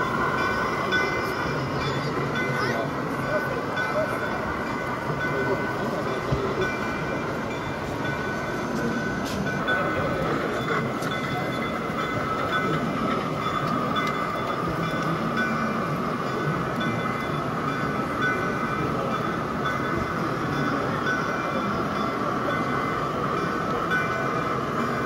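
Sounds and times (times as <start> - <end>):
busy hall noise: 0.0 - 25.0
model steam locomotive running: 0.0 - 25.0.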